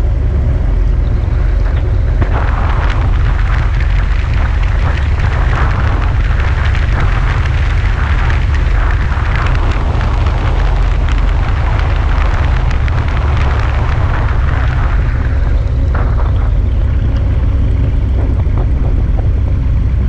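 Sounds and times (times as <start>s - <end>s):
light aircraft engine and propeller: 0.0s - 20.0s
wind buffeting microphone: 0.0s - 20.0s.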